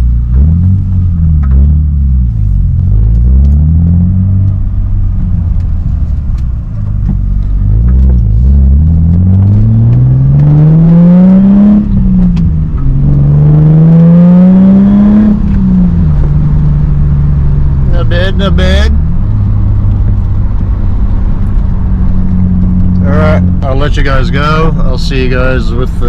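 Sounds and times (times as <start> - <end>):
car engine revving while driving: 0.0 - 26.0
gear change: 0.0 - 26.0.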